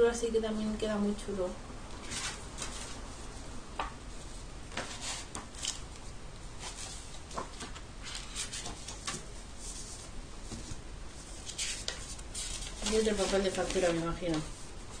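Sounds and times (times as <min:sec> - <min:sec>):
paper and book rustling: 0:01.9 - 0:15.0.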